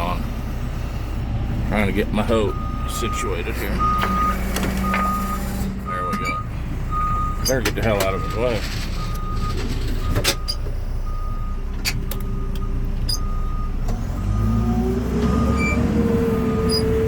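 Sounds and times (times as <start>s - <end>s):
diesel engine running: 0.0s - 17.0s
reversing alarm beeping: 2.3s - 17.0s.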